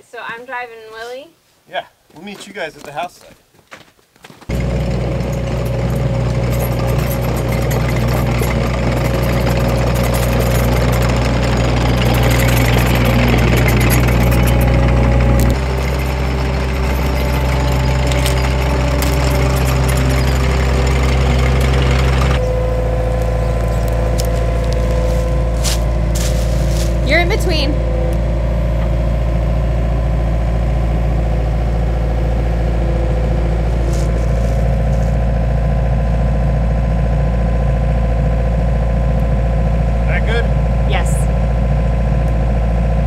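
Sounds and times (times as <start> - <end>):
diesel engine running: 4.5 - 43.0.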